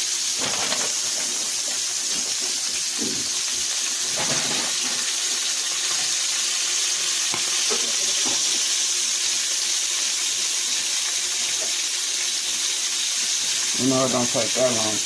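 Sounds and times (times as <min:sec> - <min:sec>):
liver sizzling in oil: 0:00.0 - 0:15.0.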